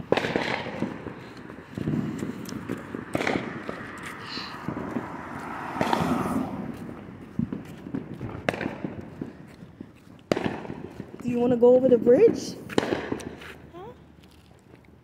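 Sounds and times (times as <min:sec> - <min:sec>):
firecrackers cracking and popping: 0:00.0 - 0:06.1, 0:06.8 - 0:11.3, 0:12.7 - 0:15.0.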